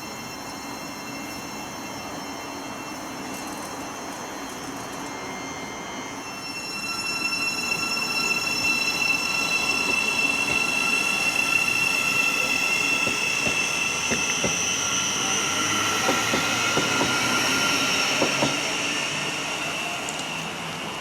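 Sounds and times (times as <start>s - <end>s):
high-pitched multi-tone squeal: 0.0s - 21.0s
train running past: 0.0s - 21.0s.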